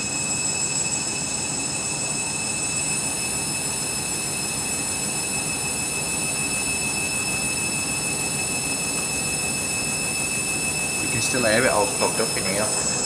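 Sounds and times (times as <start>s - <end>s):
washing machine whining: 0.0s - 13.0s.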